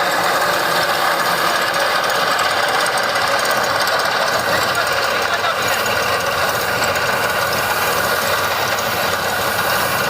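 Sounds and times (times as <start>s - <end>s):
tractor reaper running: 0.0s - 10.0s.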